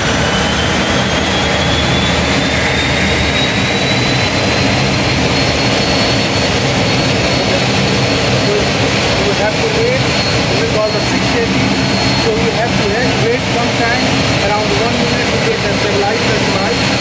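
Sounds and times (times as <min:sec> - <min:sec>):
high turbine whine rising: 0:00.0 - 0:17.0
turboprop engine roar: 0:00.0 - 0:17.0.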